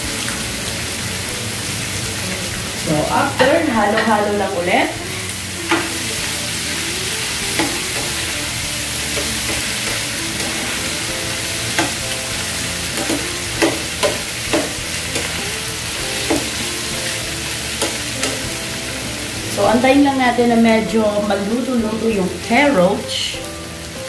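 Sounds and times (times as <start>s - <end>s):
food sizzling in frying pan: 0.0s - 24.0s.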